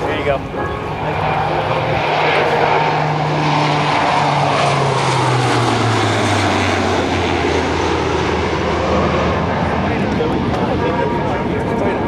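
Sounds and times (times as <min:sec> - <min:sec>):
propeller aircraft flyby roar: 0:00.0 - 0:12.0.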